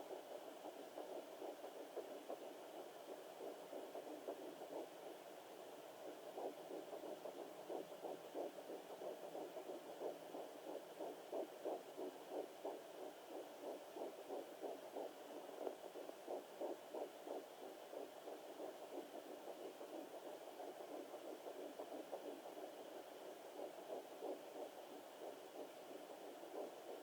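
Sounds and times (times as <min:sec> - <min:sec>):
fetal heartbeat whooshing pulses: 0:00.0 - 0:27.0.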